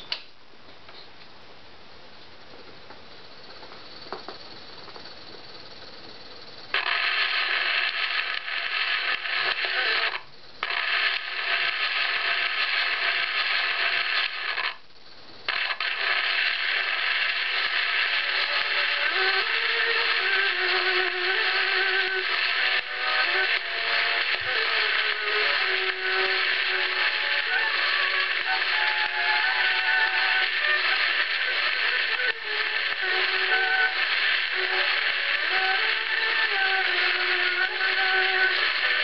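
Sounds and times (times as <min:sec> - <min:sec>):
record groove hiss and crackle: 0:00.0 - 0:39.0
faint recorded violin: 0:06.8 - 0:14.8, 0:15.5 - 0:39.0.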